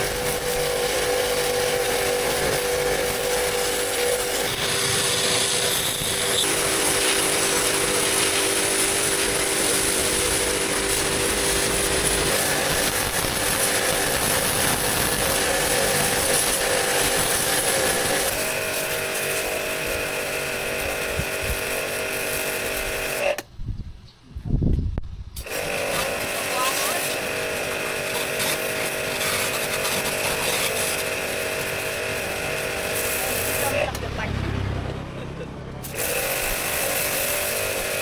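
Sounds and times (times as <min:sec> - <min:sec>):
power tool running: 0:00.0 - 0:23.4, 0:25.4 - 0:38.0.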